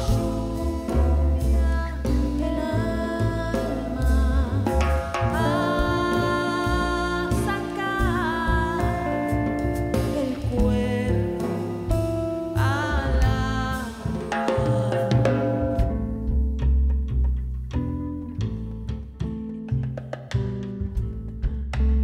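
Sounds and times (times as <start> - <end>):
band music with drums and bass: 0.0 - 22.0.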